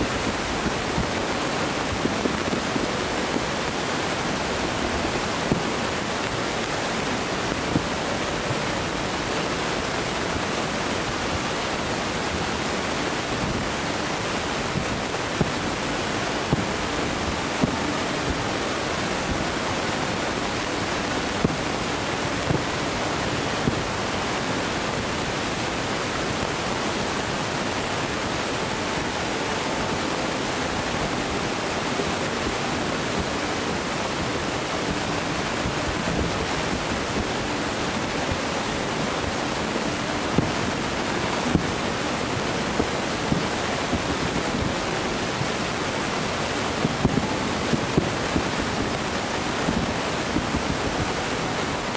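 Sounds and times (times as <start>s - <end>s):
distant fireworks reports: 0.0s - 51.0s
steady rushing noise: 0.0s - 51.9s.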